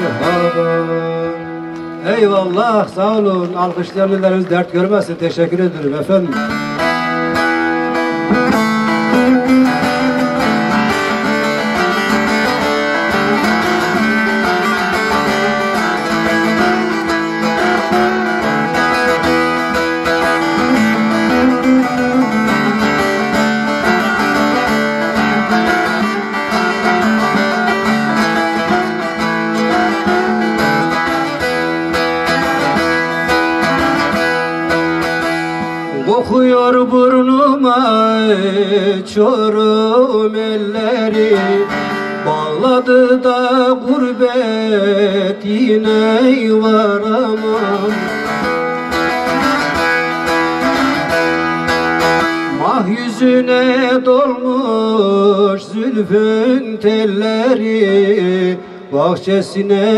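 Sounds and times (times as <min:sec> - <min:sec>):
long-necked lute plucked solo: 0:00.0 - 0:02.8, 0:06.3 - 0:54.7.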